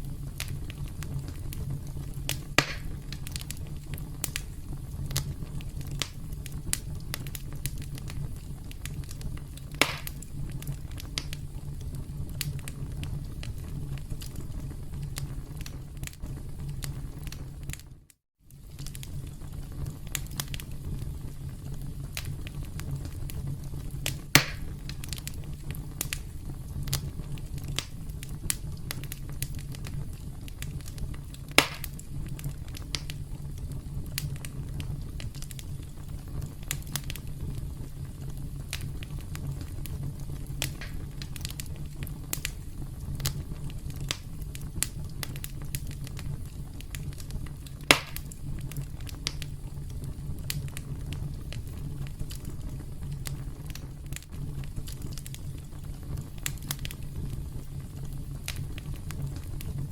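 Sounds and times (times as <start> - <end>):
campfire crackling: 0.0 - 59.9
loud fire snaps: 0.0 - 59.9.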